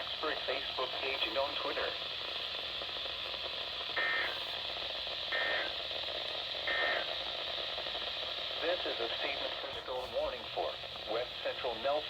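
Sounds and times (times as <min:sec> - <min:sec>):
radio receiver hiss: 0:00.0 - 0:12.0.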